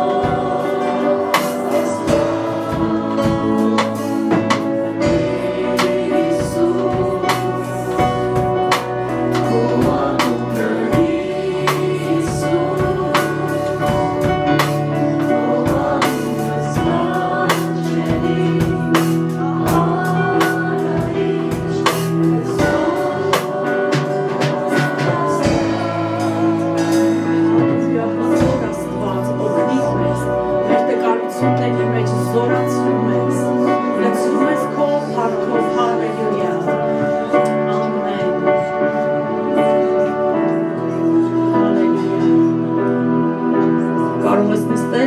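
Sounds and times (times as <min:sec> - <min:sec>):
keyboard chords: 0:00.0 - 0:45.0
voices singing worship song: 0:00.0 - 0:45.0.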